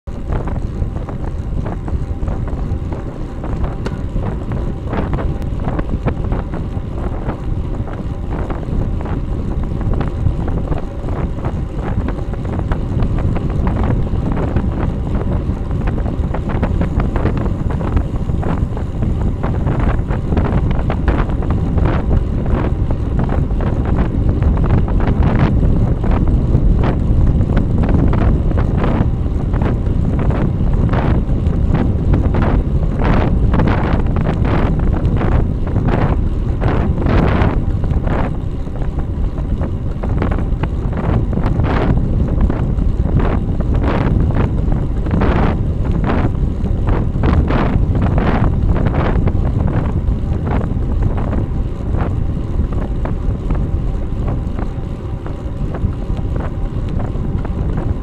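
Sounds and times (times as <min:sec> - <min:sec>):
wind rushing over microphone: 0:00.0 - 0:58.0
tyre and road noise: 0:00.1 - 0:58.0.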